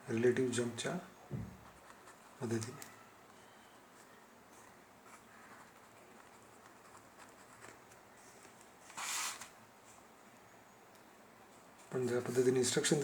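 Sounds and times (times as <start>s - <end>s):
faint small noises: 0.0s - 13.0s.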